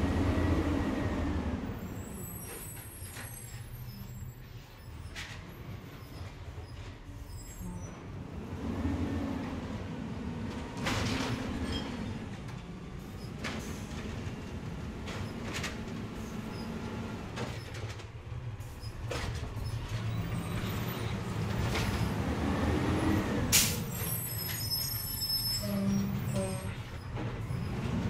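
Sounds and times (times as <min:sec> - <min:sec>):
garbage truck engine and hydraulic drone: 0:00.0 - 0:28.0.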